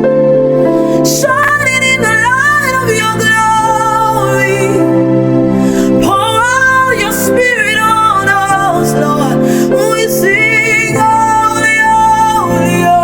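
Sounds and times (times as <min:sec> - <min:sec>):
sustained low chords: 0:00.0 - 0:13.0.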